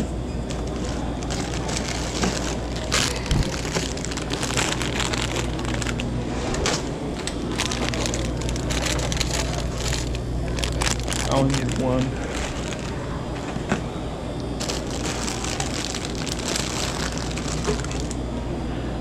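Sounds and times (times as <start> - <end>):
plastic bags crinkling: 0.0 - 13.8, 14.6 - 18.2
steady low hum: 0.0 - 19.0.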